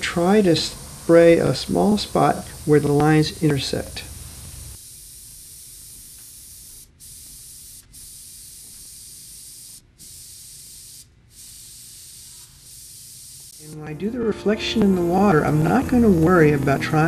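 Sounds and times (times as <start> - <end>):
airbrush hissing: 0.0 - 17.0.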